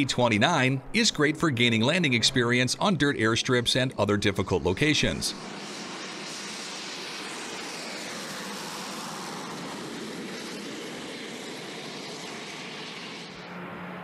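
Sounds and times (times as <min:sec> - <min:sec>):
turboprop aircraft engine: 0:00.0 - 0:14.0.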